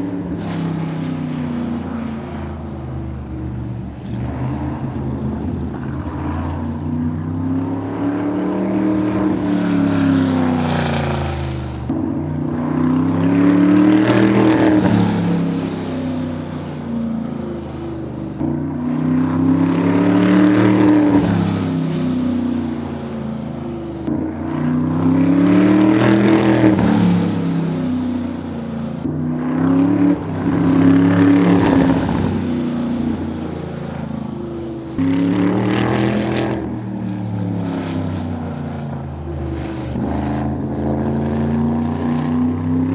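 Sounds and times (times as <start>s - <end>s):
racing car engine lapping: 0.0s - 42.9s.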